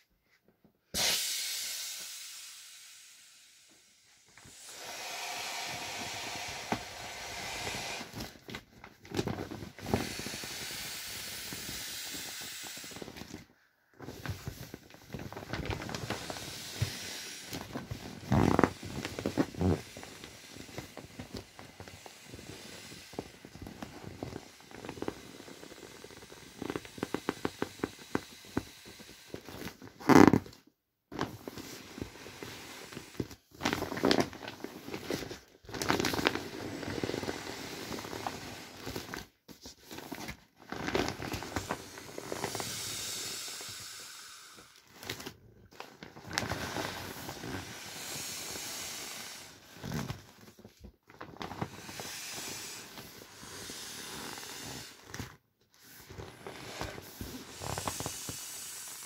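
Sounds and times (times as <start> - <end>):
air rushing out of inflatable: 0.9 - 30.4, 31.2 - 50.8, 51.4 - 59.0.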